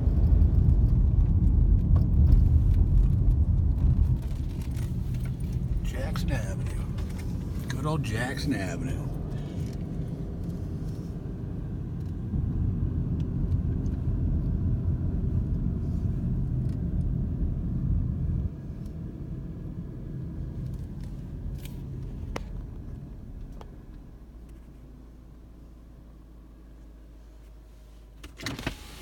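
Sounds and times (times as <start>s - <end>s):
car engine and tyres rumble: 0.0s - 29.0s.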